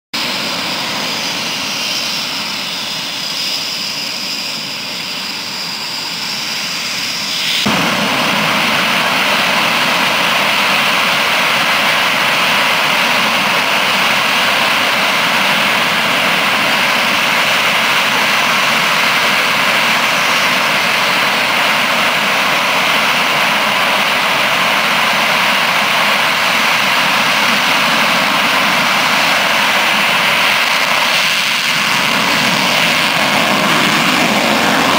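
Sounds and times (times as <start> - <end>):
distant jet hiss: 0.2 - 34.9
high-pitched engine whine: 0.2 - 34.9
loud jet roar: 0.2 - 34.9.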